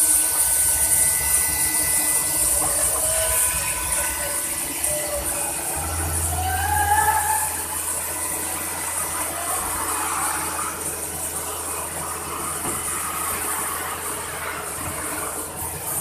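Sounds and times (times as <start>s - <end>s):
cnc machine running: 0.0s - 16.0s.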